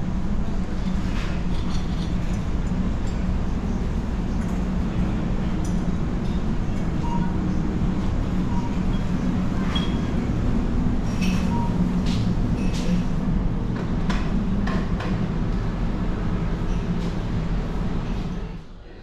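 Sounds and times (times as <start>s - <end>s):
ship machinery drone: 0.0s - 19.0s.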